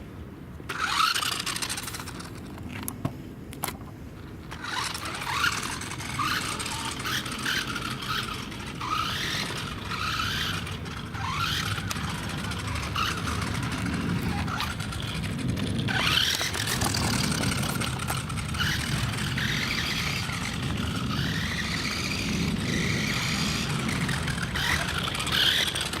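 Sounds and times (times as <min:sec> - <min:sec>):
toy electric motor whining: 0:00.7 - 0:02.9, 0:04.5 - 0:26.0.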